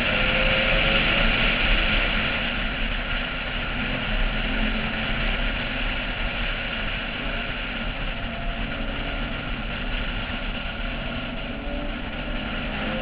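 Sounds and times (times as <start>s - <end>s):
car engine running: 0.0s - 13.0s
wind rumbling over camera: 0.0s - 13.0s.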